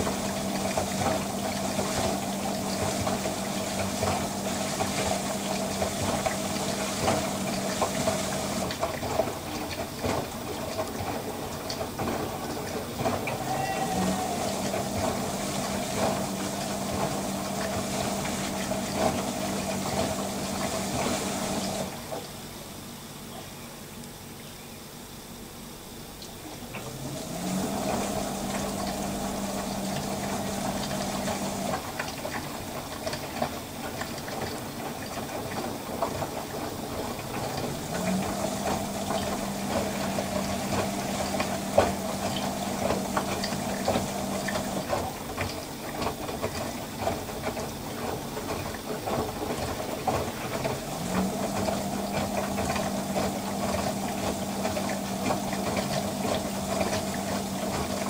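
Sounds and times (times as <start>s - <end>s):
washing machine drum tumbling: 0.0s - 22.2s, 26.7s - 58.0s
water sloshing and splashing: 0.0s - 22.4s, 26.2s - 58.0s
pump humming: 0.0s - 58.0s.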